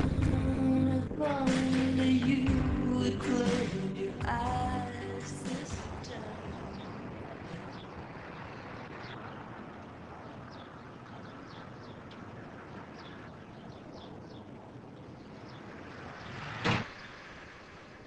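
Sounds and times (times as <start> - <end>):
distant traffic hum: 0.0 - 18.0
small birds chirping: 3.4 - 18.0.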